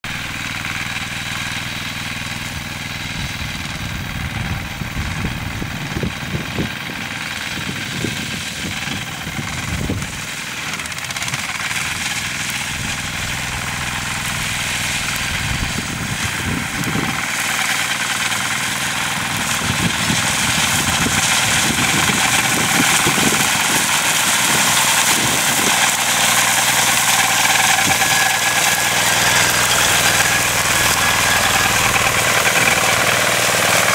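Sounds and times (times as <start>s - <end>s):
tractor engine mowing grass: 0.0s - 33.9s.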